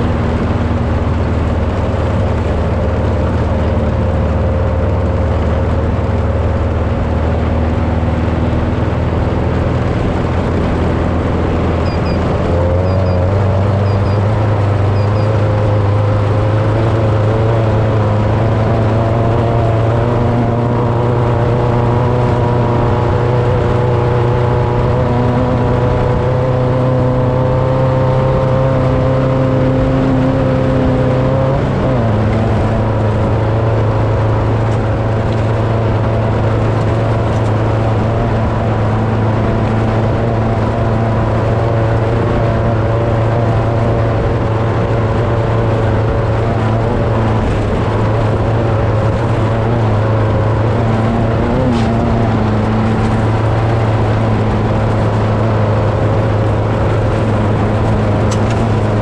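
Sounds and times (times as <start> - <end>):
vehicle engine running steadily: 0.0 - 59.0.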